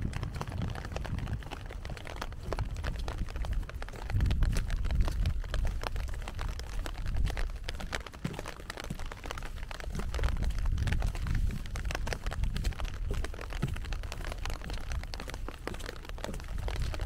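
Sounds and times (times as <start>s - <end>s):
rain falling: 0.0s - 17.0s
raindrops ticking: 0.0s - 17.0s.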